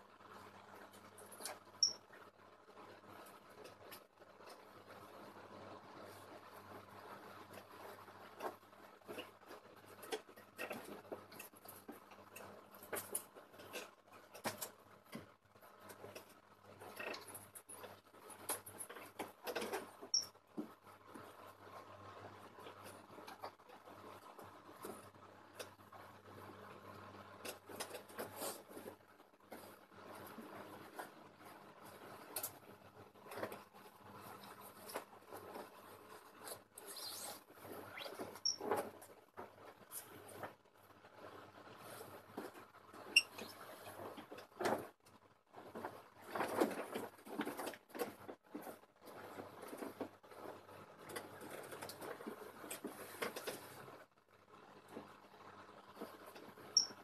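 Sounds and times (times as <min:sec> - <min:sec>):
clicks and rustles of handling: 0:00.1 - 0:57.0.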